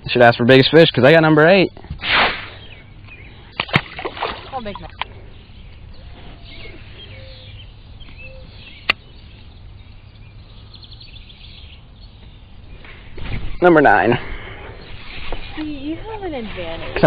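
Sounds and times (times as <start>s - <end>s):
birds chirping faintly: 0.0s - 17.0s
low outdoor rumble: 0.0s - 17.0s.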